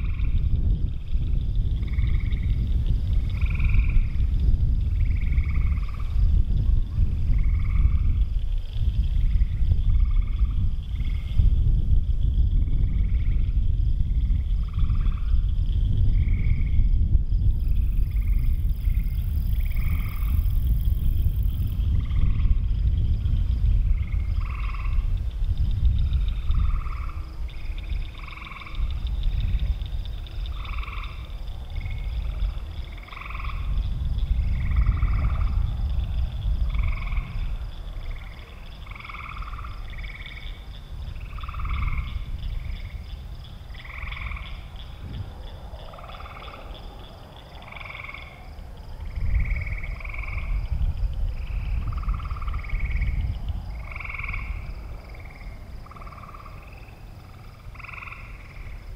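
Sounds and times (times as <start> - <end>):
frogs calling: 0.0 - 11.5, 12.6 - 58.9
low rumble: 0.0 - 40.0, 40.6 - 58.9.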